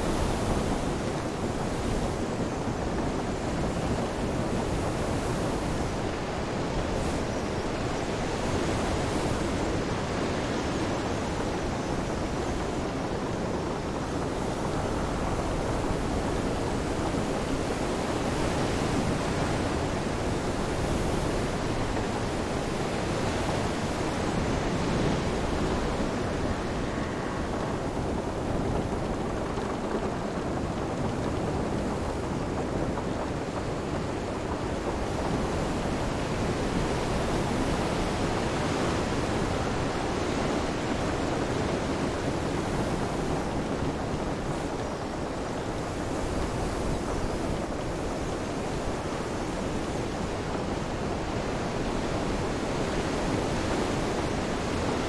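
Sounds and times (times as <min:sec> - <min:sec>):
rain: 0:00.0 - 0:55.0.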